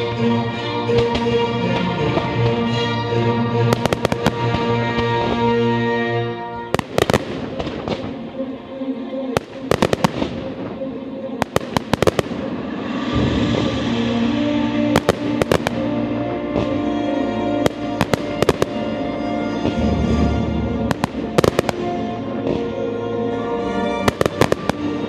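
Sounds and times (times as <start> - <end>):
music: 0.0 - 25.0
firework bangs and crackles: 0.7 - 5.8, 6.6 - 8.3, 9.4 - 22.8, 24.0 - 25.0.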